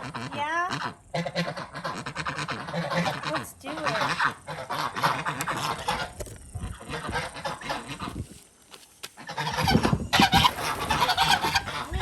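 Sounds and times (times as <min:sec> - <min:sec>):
geese honking: 0:00.0 - 0:08.3, 0:09.2 - 0:12.0.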